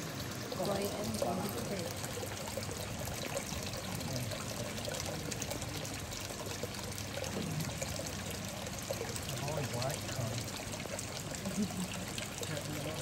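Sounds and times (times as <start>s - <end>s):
water pouring into pond: 0.0s - 13.0s.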